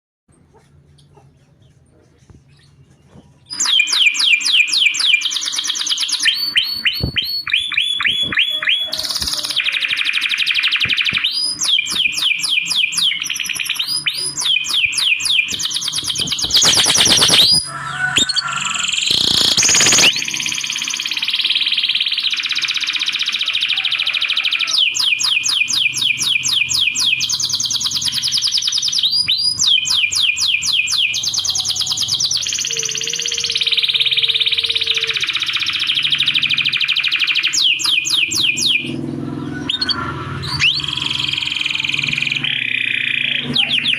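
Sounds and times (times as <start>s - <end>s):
lovebird chirping: 2.4s - 43.9s.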